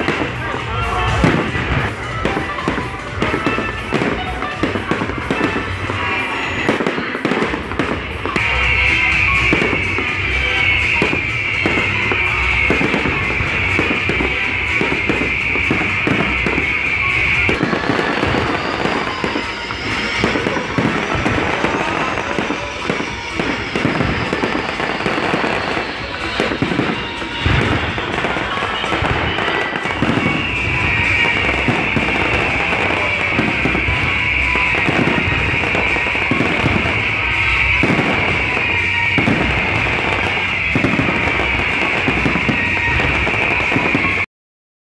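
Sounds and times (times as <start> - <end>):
firework bangs: 0.0 - 44.3
fireworks hissing crackle: 0.0 - 44.3.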